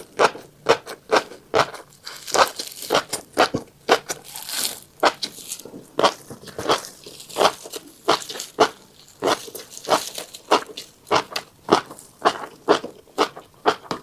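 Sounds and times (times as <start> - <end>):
chewing and crunching seeds: 0.0 - 14.0.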